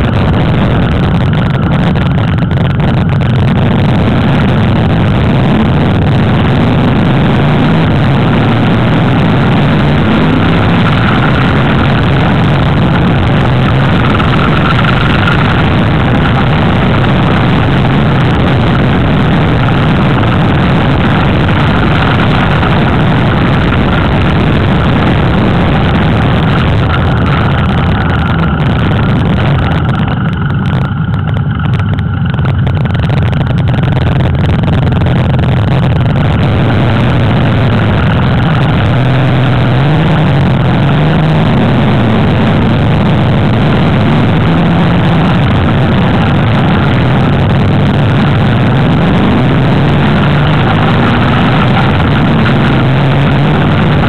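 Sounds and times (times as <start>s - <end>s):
motorcycle engine running: 0.0s - 54.0s
wind rush and road noise: 0.0s - 54.0s.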